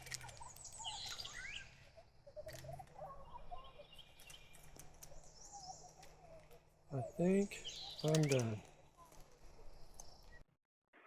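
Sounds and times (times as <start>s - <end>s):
low steady background noise: 0.0s - 10.4s.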